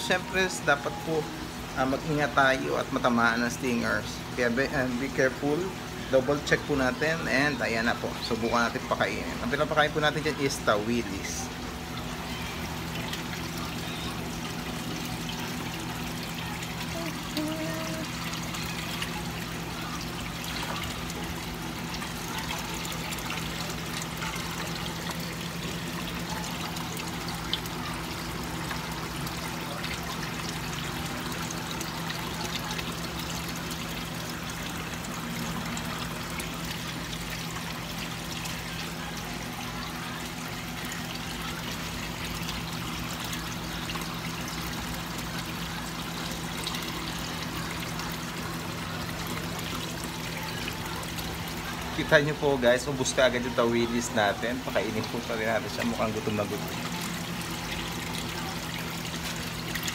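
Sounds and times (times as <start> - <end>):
aquarium water trickling: 0.0 - 59.9
low steady hum: 0.0 - 59.9.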